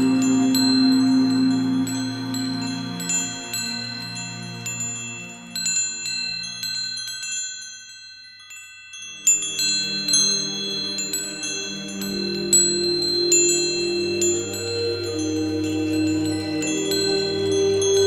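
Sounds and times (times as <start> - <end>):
wind chimes jingling: 0.0 - 18.0.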